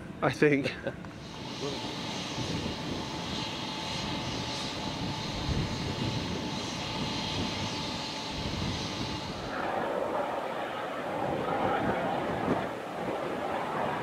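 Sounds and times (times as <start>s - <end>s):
wind buffeting microphone: 1.0s - 14.0s.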